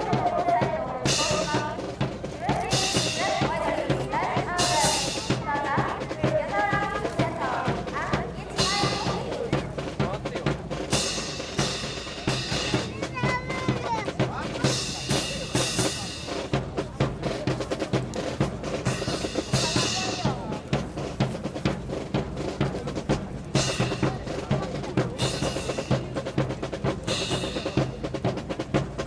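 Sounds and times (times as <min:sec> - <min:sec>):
drum-led band music: 0:00.0 - 0:29.0.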